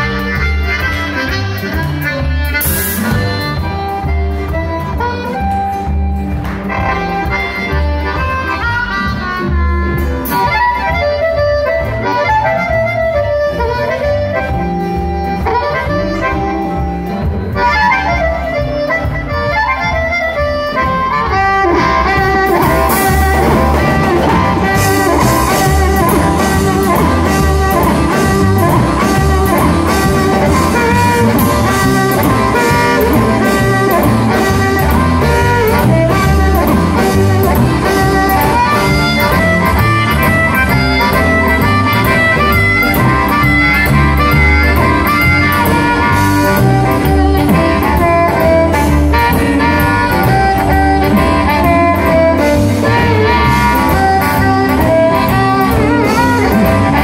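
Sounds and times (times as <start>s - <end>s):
drums: 0.0s - 57.0s
electric bass: 0.0s - 57.0s
harmonica lead: 0.0s - 57.0s.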